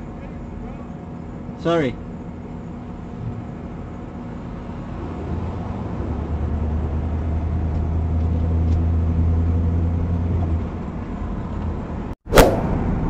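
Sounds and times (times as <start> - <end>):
car engine and road noise: 1.1 - 13.0.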